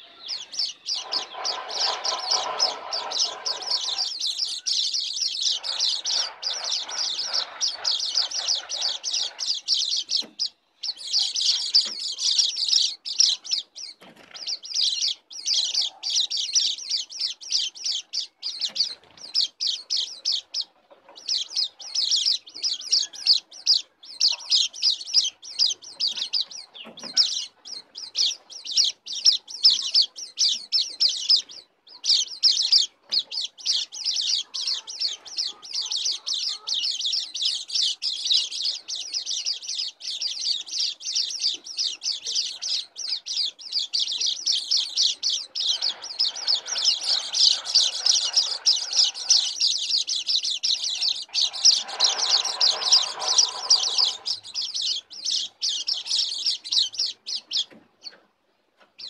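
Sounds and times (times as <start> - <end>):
birds twittering: 0.0 - 58.3.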